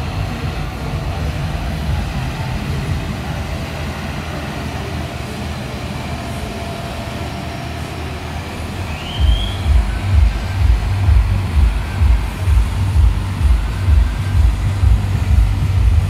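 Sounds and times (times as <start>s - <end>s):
tractor diesel engines rumbling: 0.0s - 16.0s.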